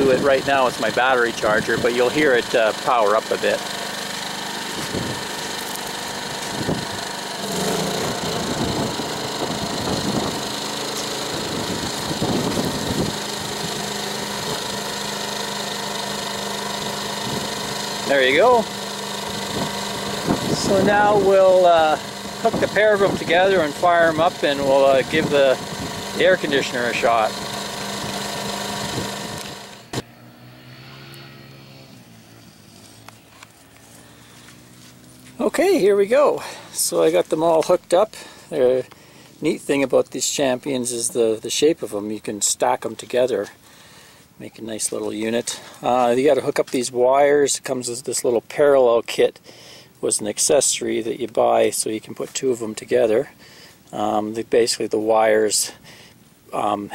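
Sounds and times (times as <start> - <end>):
distant atv engines droning: 0.0 - 56.9
generator running: 0.0 - 56.9.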